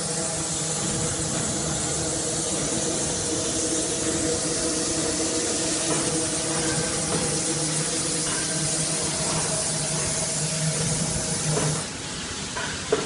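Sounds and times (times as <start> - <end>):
steady hiss: 0.0 - 13.0
workshop machinery hum: 0.0 - 13.0.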